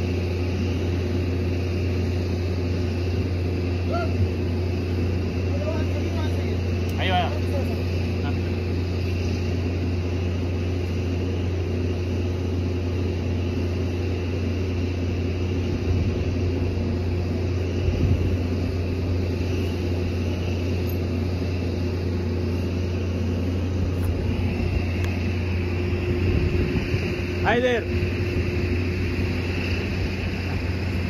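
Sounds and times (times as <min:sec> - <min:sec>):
large engine idling: 0:00.0 - 0:31.0.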